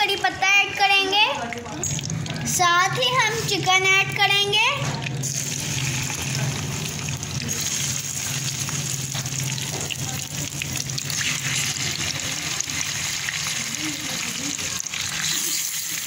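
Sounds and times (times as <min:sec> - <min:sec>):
ghee sizzling in a frying pan: 0:00.0 - 0:16.0.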